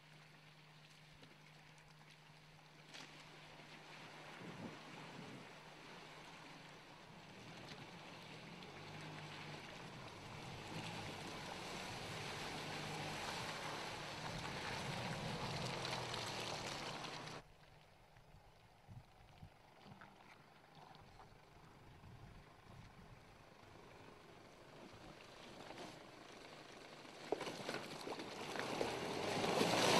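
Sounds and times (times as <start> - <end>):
water and mud splashing: 0.0 - 22.0, 24.8 - 29.9
low engine hum: 0.0 - 29.9.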